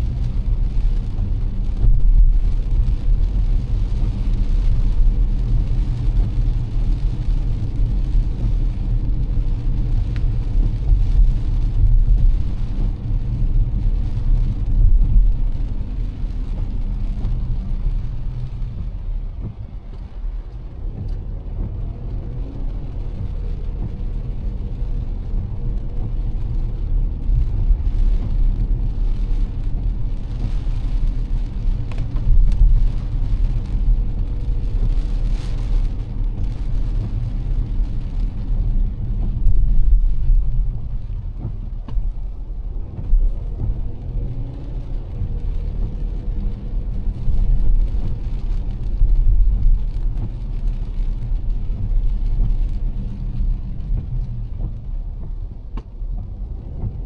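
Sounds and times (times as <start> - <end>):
car engine and tyres rumbling: 0.0 - 57.0
hiss of rain and spray: 0.0 - 57.0.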